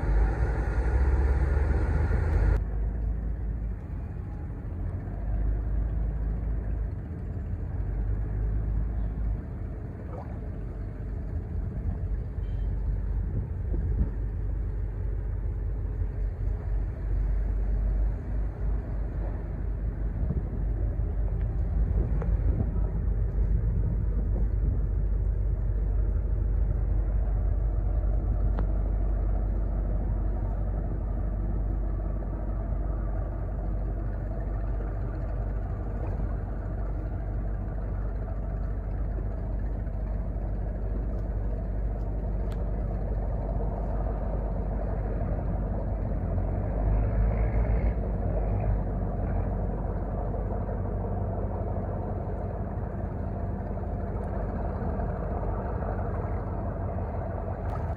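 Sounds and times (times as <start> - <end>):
ship engine rumbling: 0.0 - 57.9.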